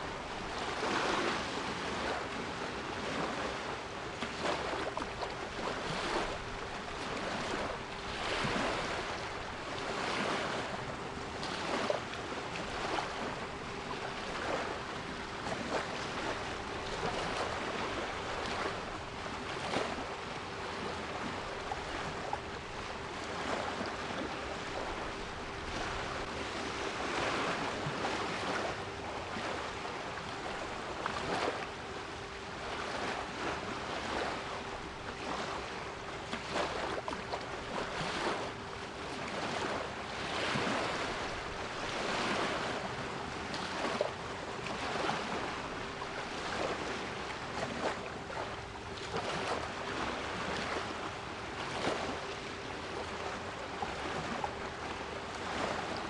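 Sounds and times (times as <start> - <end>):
sea waves washing in: 0.0 - 56.0.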